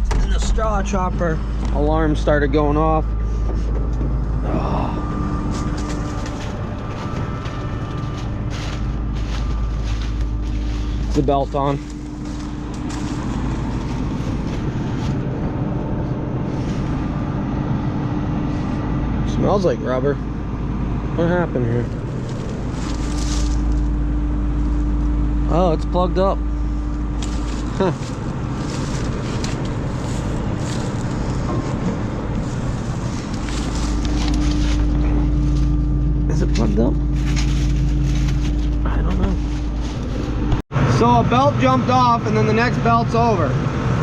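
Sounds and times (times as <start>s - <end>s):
combine harvester running: 0.0s - 44.0s
low engine hum: 0.0s - 44.0s.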